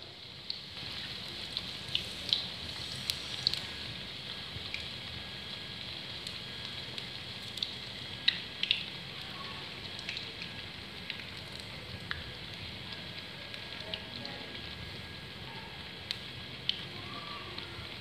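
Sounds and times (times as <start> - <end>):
oil sizzling: 0.0 - 18.0
sharp pops from frying: 0.0 - 18.0.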